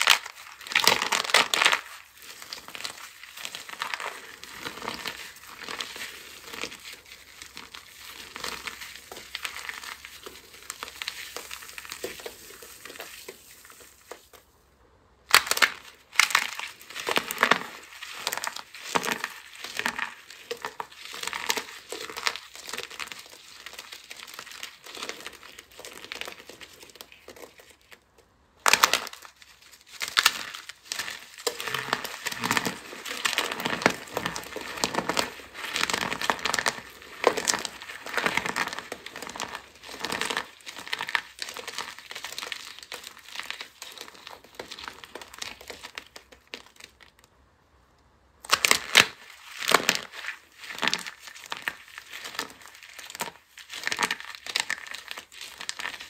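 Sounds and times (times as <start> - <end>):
dry soap crunching in hands: 0.0 - 14.5, 15.3 - 47.3, 48.4 - 56.0.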